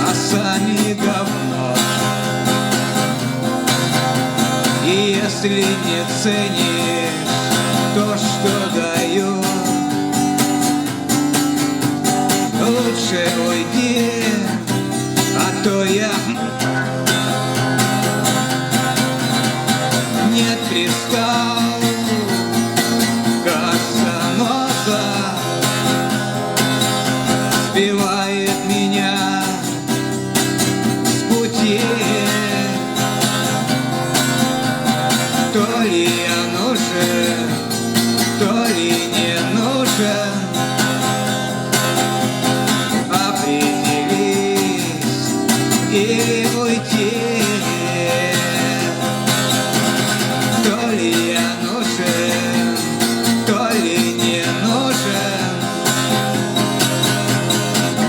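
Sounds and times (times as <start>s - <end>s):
acoustic guitar chords: 0.0s - 58.0s.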